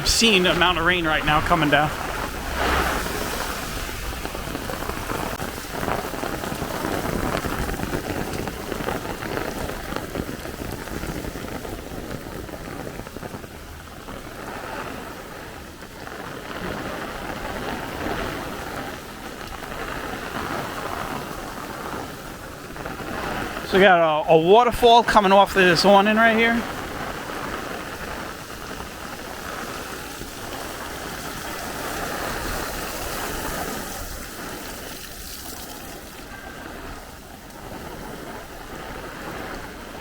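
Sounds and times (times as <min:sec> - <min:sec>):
wind buffeting microphone: 0:00.0 - 0:25.1, 0:26.1 - 0:40.0
heavy rain on pavement: 0:00.0 - 0:40.0.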